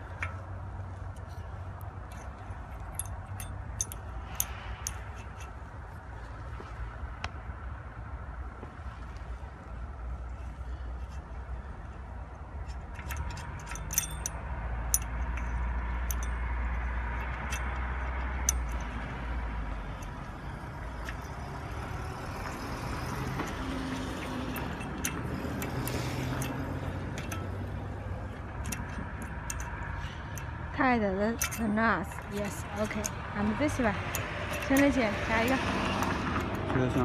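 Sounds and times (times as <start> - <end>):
wrench clinking on metal bolt: 0.0 - 5.6, 12.4 - 37.0.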